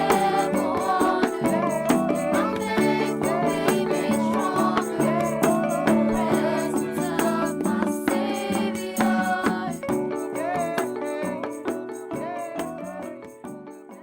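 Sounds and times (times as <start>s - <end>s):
shaken tambourine-like percussion: 0.0s - 14.0s.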